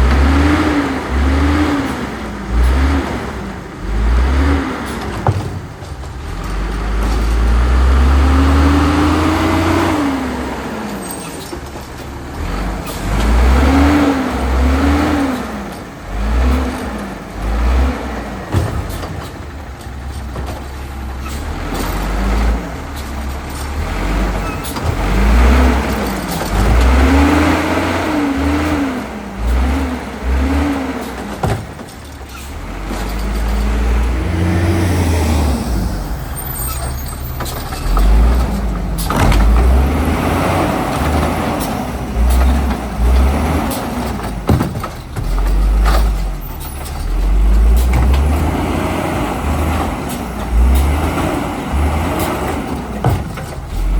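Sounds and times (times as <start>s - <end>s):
truck engine revving: 0.0s - 53.9s.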